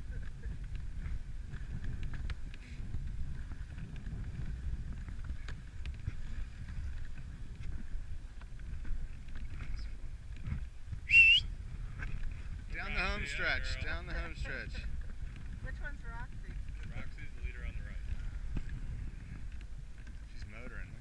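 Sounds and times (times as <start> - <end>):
sled runners sliding over snow: 0.0 - 21.0
wind on microphone: 0.0 - 21.0.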